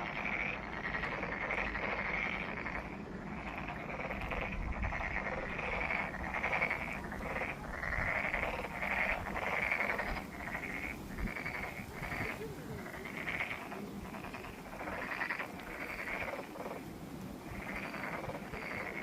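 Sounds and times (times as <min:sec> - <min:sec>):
chorus of frogs calling: 0:00.0 - 0:19.0.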